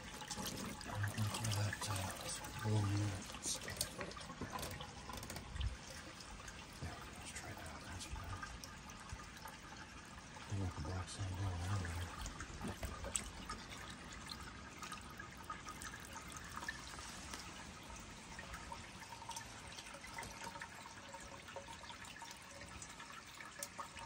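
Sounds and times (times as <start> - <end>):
water trickling into plastic pan: 0.0 - 24.0.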